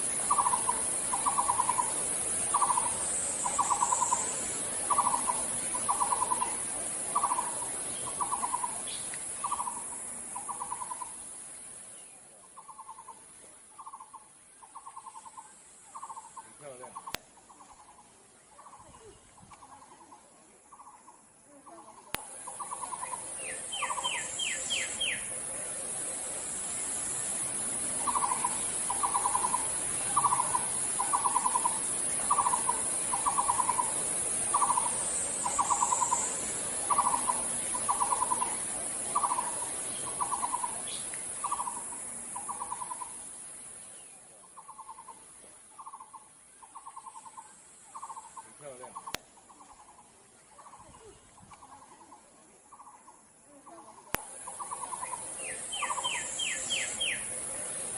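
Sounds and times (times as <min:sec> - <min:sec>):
steady high hiss: 0:00.0 - 0:57.9.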